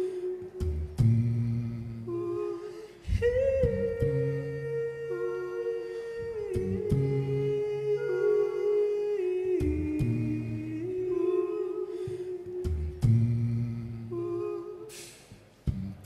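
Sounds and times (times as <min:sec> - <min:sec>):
a cappella humming in harmony: 0:00.0 - 0:16.0.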